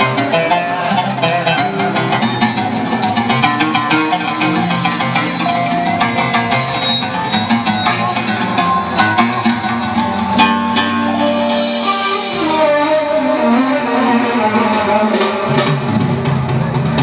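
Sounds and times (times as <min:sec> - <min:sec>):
plucked-string melody: 0:00.0 - 0:17.0.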